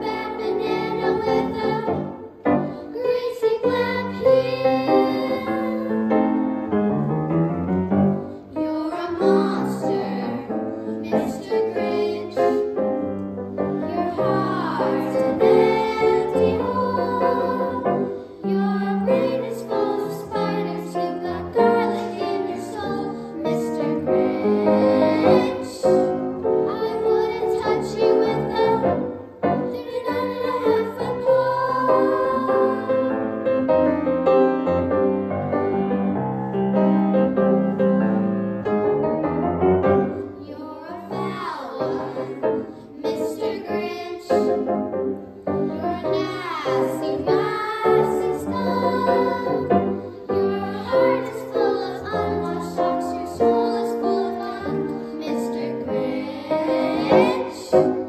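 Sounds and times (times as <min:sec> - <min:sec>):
piano accompaniment: 0:00.0 - 0:58.0.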